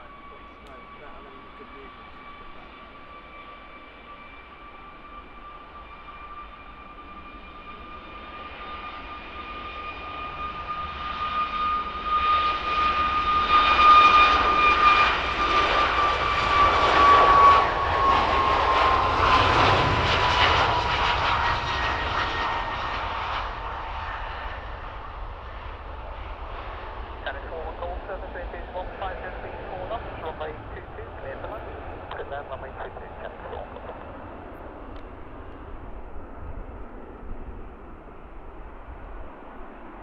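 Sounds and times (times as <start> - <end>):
jet aircraft passing by: 0.0 - 40.0.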